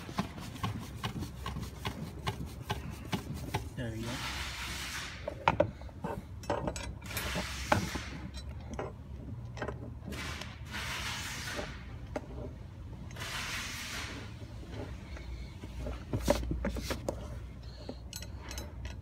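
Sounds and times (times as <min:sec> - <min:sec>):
chair parts rubbing and sliding: 0:00.0 - 0:06.4, 0:07.0 - 0:08.4, 0:10.0 - 0:18.7.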